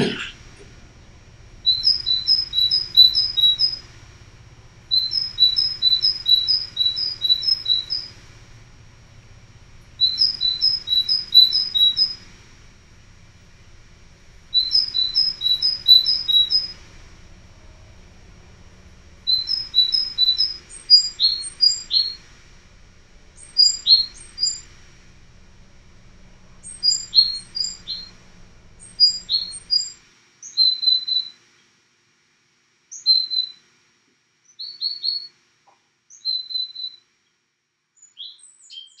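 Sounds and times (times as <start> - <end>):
small songbird chirping: 0.0 - 31.7, 32.9 - 33.6, 34.4 - 35.3, 36.1 - 37.4, 38.0 - 39.0
faint low background hum: 0.0 - 39.0.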